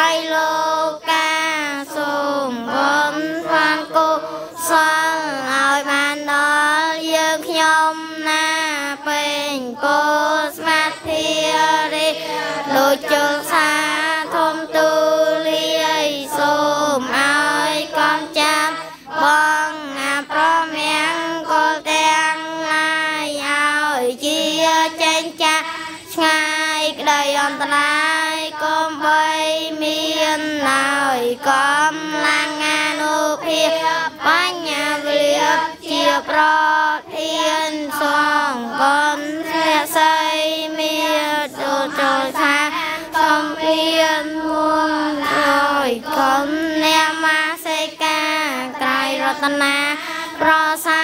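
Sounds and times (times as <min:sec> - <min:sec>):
children chanting in unison: 0:00.0 - 0:51.0.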